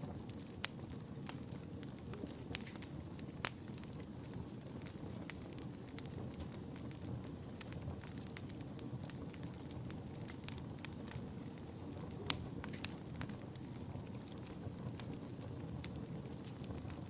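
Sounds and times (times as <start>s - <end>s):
burning wood crackling and popping: 0.0s - 17.0s
fire flames rumbling: 0.0s - 17.0s.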